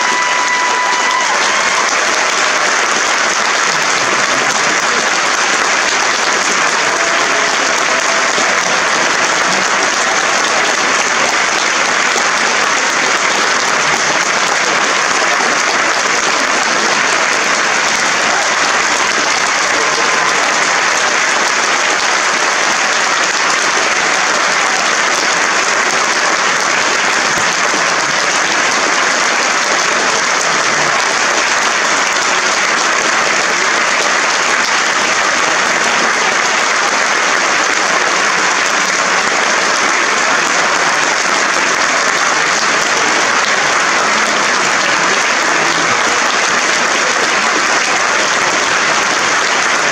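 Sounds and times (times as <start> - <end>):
audience applauding: 0.0 - 49.9.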